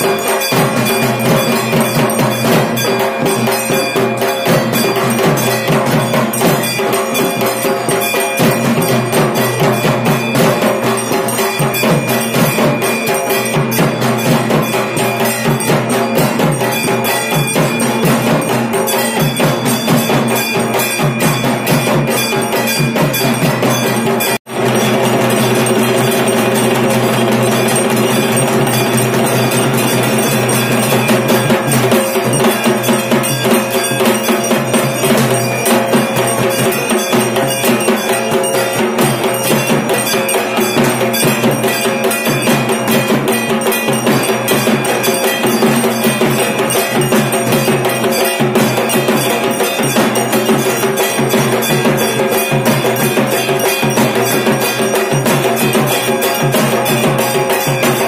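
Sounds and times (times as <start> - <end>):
drums beating fast rhythm: 0.0 - 58.0
ringing metal percussion: 0.0 - 58.0.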